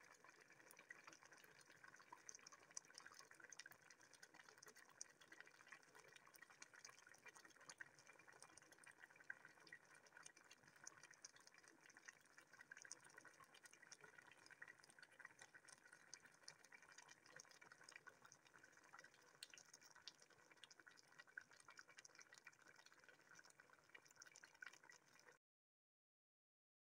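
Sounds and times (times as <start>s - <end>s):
pot of soup simmering: 0.0s - 25.4s.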